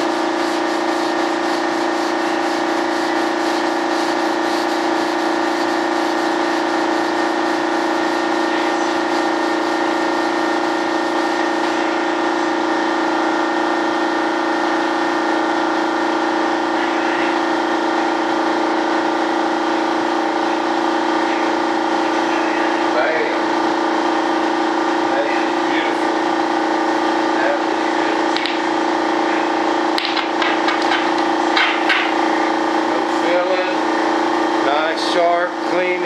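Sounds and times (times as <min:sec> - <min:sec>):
machine whine and hum: 0:00.0 - 0:36.0.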